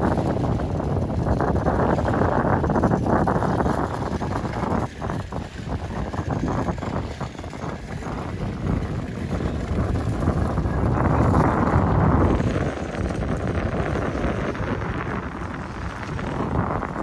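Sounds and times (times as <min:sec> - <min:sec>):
waves washing against rocks: 0:00.0 - 0:17.0
wind rumbling on microphone: 0:00.0 - 0:17.0.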